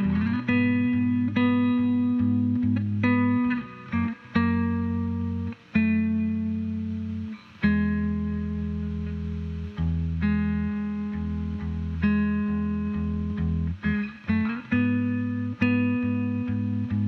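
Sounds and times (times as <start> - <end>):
clean electric guitar chords: 0.0 - 17.0
guitar slide: 0.0 - 17.0.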